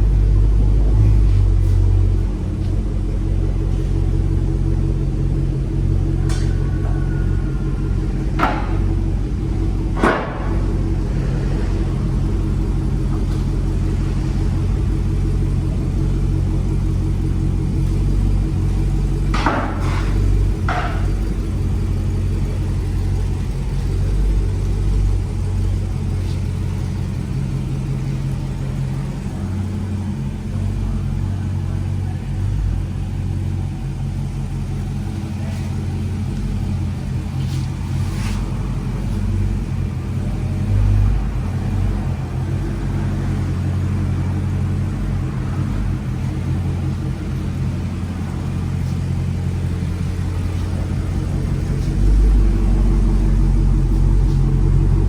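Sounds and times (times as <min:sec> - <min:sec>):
car engine rumbling: 0:00.0 - 0:55.0.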